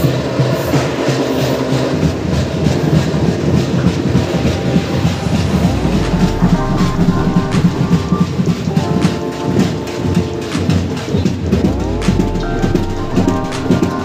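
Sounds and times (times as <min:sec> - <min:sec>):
fast dense drumming: 0:00.0 - 0:14.0
sliding pitched melody: 0:00.0 - 0:14.0.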